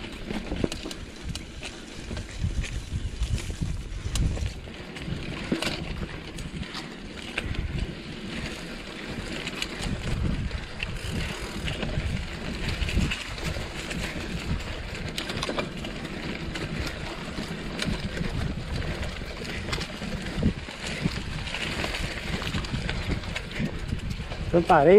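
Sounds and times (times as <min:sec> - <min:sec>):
bike clicks and rattles: 0:00.0 - 0:24.9
wind buffeting microphone: 0:00.0 - 0:24.9.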